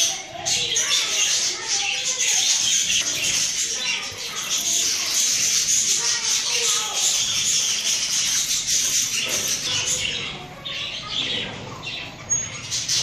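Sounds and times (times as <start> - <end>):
parrot chattering and squawking: 0.0 - 13.0.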